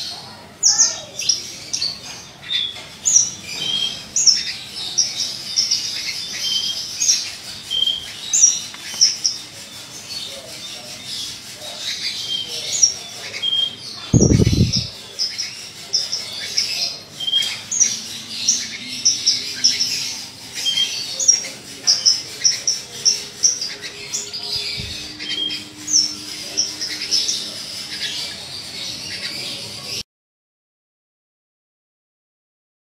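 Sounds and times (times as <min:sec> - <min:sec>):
bird chirping: 0:00.0 - 0:30.0.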